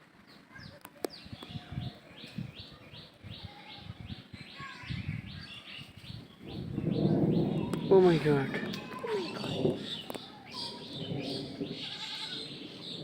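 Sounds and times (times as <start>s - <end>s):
low gusty rumbling: 1.2s - 13.0s.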